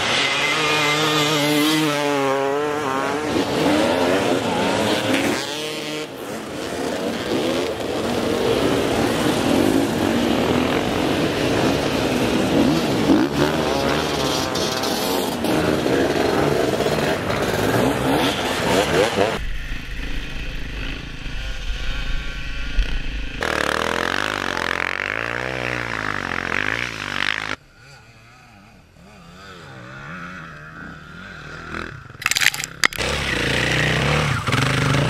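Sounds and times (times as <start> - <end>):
dirt bikes revving: 0.0 - 19.6, 20.3 - 35.0.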